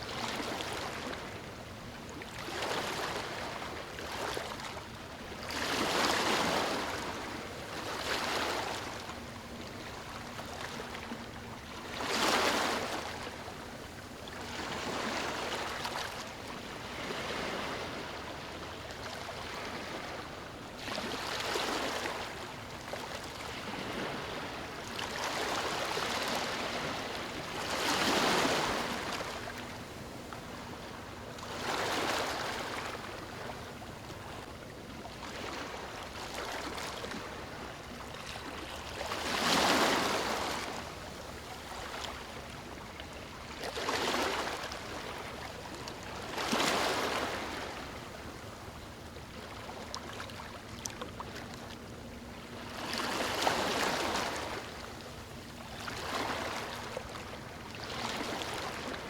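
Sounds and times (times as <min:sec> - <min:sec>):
ocean waves surf hiss: 0:00.0 - 0:51.4.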